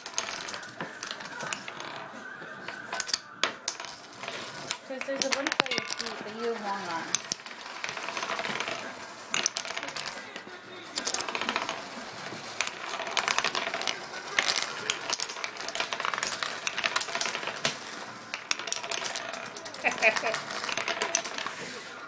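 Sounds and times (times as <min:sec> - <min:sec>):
wooden discs spinning and rattling: 0:00.0 - 0:22.0.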